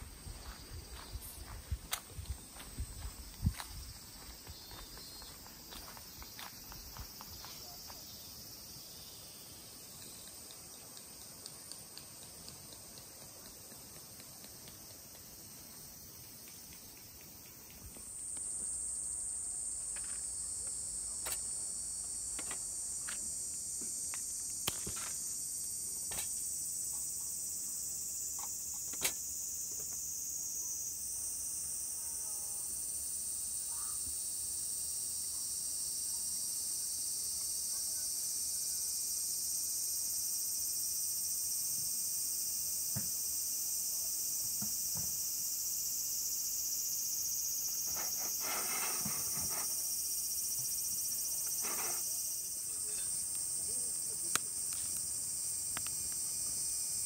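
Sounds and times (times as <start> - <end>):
insects singing: 0.0 - 57.0.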